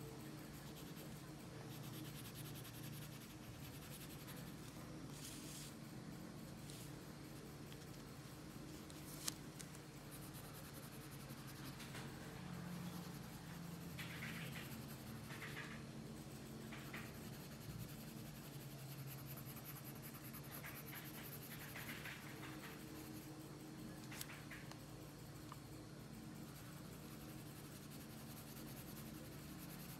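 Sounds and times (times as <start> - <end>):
pencil scratching on paper: 0.0 - 5.8, 9.8 - 24.7, 26.0 - 29.9.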